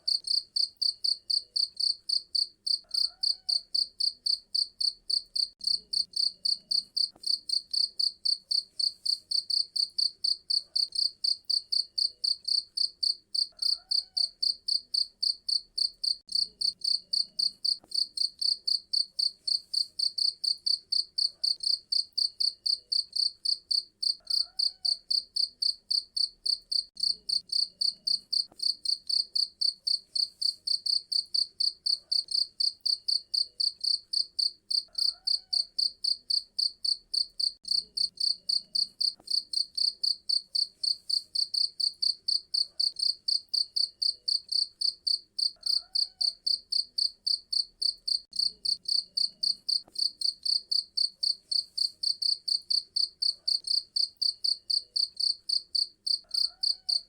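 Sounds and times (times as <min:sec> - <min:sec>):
cricket chirping: 0:00.1 - 0:57.0.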